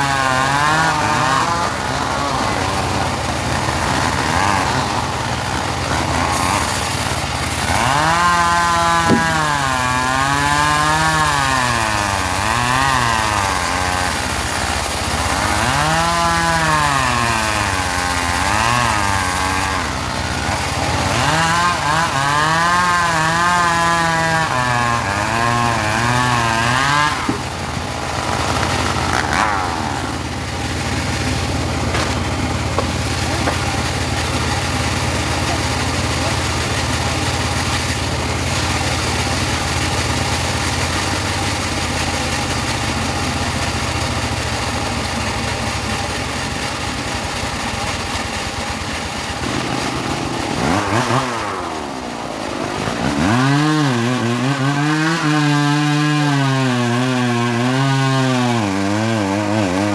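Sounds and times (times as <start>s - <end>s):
bandsaw cutting wood: 0.0s - 59.9s
bandsaw sawmill engine running: 0.0s - 59.9s.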